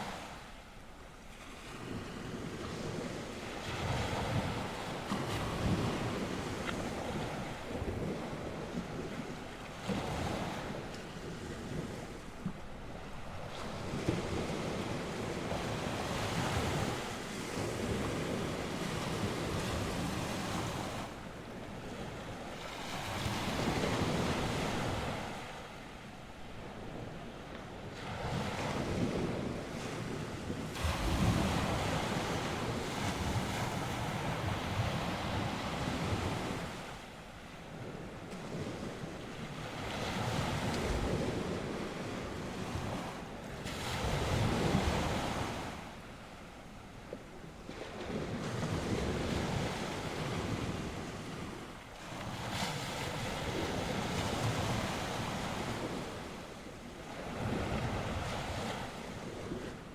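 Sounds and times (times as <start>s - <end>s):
waves breaking on shore: 0.0s - 59.9s
wind buffeting microphone: 1.5s - 59.9s.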